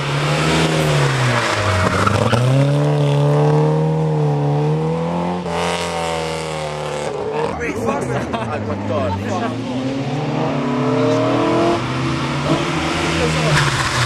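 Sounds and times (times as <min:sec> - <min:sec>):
rally car engine passing at speed: 0:00.0 - 0:14.0.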